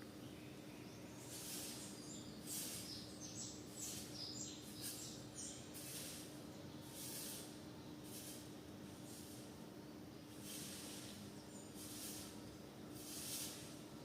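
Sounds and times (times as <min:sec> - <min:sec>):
faint bird chirps: 0:00.0 - 0:13.8
steady low hum: 0:00.0 - 0:14.0
bursts of high hiss: 0:01.2 - 0:14.0.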